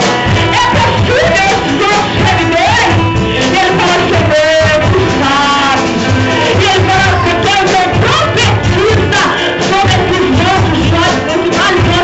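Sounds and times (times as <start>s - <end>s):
band with steady beat: 0.0s - 12.0s
person singing: 0.0s - 12.0s.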